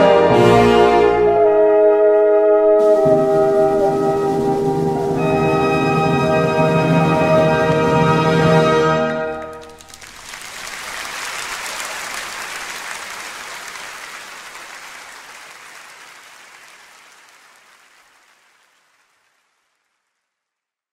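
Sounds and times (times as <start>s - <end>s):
audience applauding: 2.8s - 20.4s.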